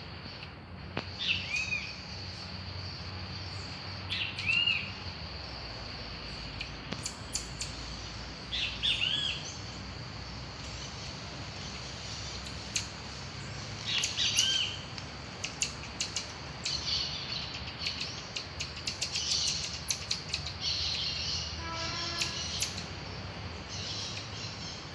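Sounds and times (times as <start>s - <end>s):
marmosets chirping: 1.1s - 24.9s.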